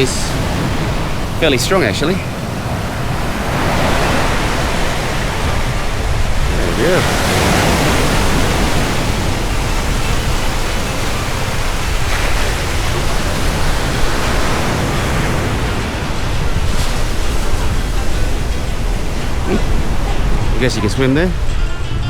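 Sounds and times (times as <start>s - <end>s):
ocean surf breaking: 0.0s - 22.0s
wind rumbling on microphone: 0.0s - 22.0s.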